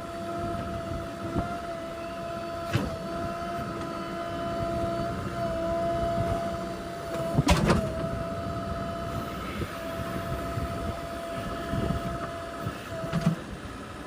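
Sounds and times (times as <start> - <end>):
diesel engine running with whine: 0.0 - 14.0.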